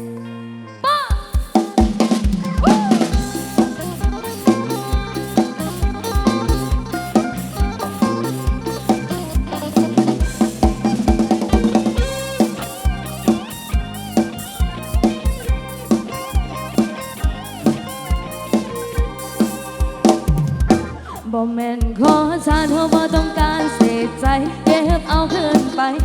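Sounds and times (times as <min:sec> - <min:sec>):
band music over loudspeaker: 0:00.8 - 0:26.0
drum kit beat: 0:01.1 - 0:26.0.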